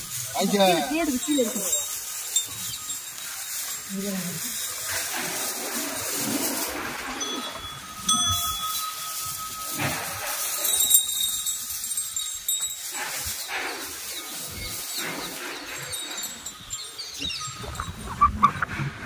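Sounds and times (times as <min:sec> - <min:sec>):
small metal bells jingling: 0:00.0 - 0:18.5.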